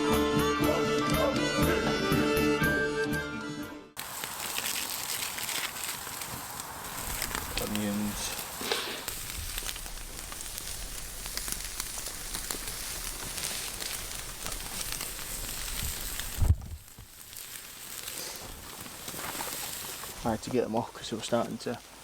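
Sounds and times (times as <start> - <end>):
burgers sizzling over fire: 4.0 - 22.0.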